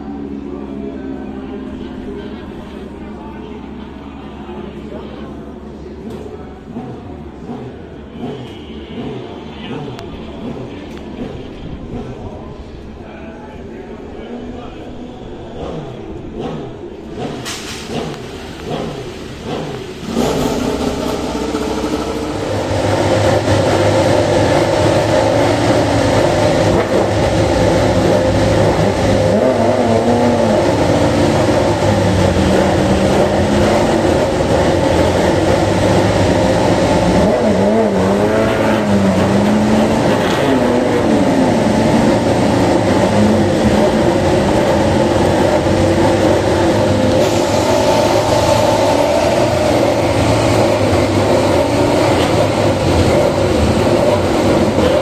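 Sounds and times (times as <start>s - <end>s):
racing motorcycle engines: 0.0s - 55.0s.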